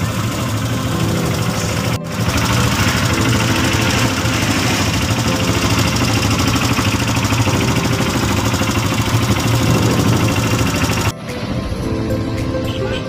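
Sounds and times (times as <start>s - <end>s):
quad bike engine idling: 0.0s - 11.1s.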